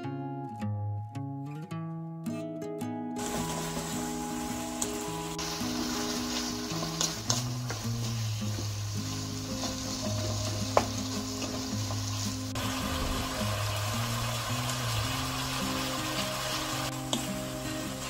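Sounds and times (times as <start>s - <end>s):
soft background music: 0.0s - 18.0s
food sizzling in a pan: 3.2s - 18.0s.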